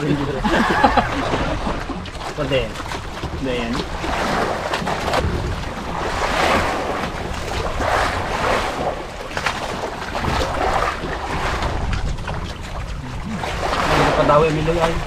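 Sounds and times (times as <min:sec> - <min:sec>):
waves splashing against boat: 0:00.0 - 0:15.0
wind rumbling on microphone: 0:00.0 - 0:15.0.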